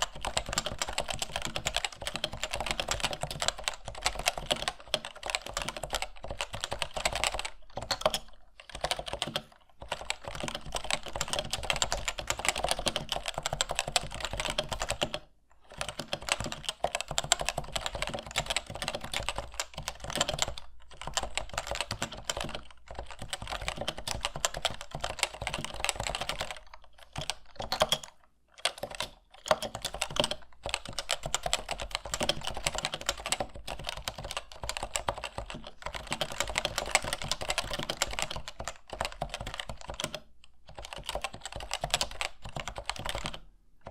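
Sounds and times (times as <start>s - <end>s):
fast keyboard typing: 0.0s - 43.9s.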